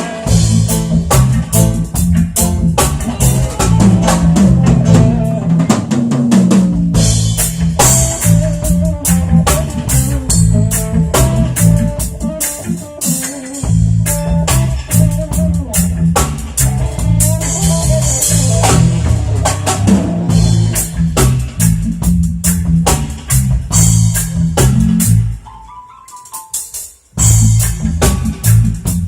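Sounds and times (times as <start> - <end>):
prominent bass line: 0.0 - 5.8, 6.4 - 25.5, 27.2 - 29.0
live band playing: 0.0 - 29.0.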